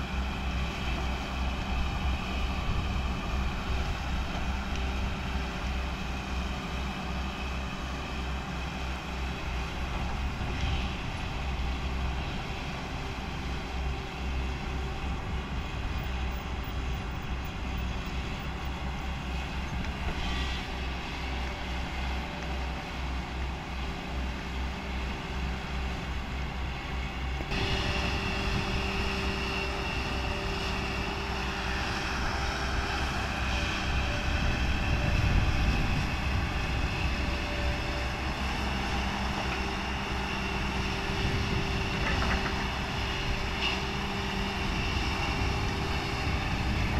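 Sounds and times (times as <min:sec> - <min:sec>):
excavator diesel engine rumbling: 0:00.0 - 0:46.9
hydraulic and digging noise: 0:00.0 - 0:46.9.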